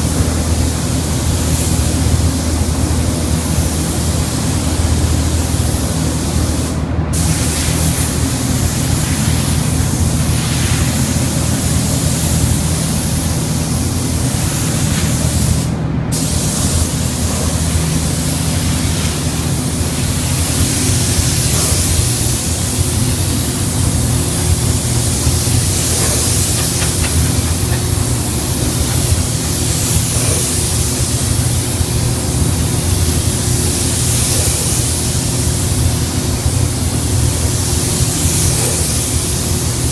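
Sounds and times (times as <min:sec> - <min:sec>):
spray gun hissing: 0:00.0 - 0:02.6, 0:03.2 - 0:39.9
steady low hum: 0:00.0 - 0:39.9.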